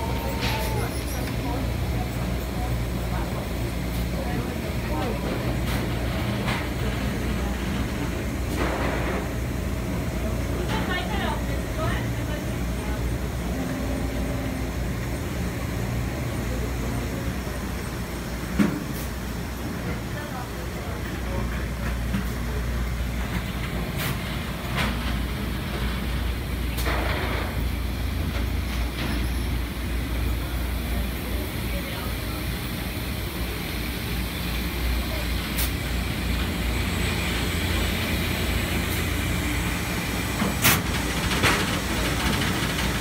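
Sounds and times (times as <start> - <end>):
laundry machinery rumble and hum: 0.0 - 43.0.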